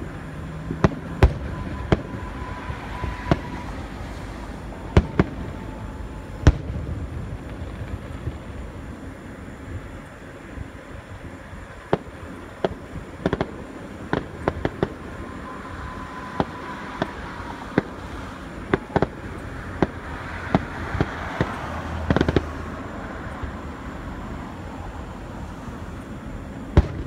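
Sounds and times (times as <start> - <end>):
fireworks bangs and pops: 0.0 - 23.0, 26.4 - 27.0.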